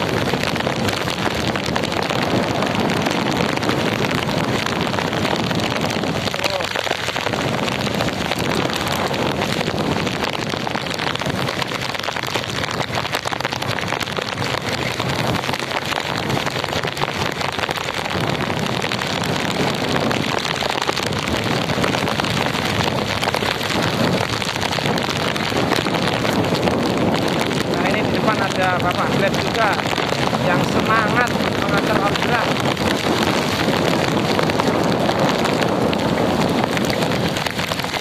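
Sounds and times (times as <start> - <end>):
heavy rain on wet road: 0.0 - 38.0
traffic noise: 0.0 - 38.0
wind buffeting microphone: 0.0 - 38.0.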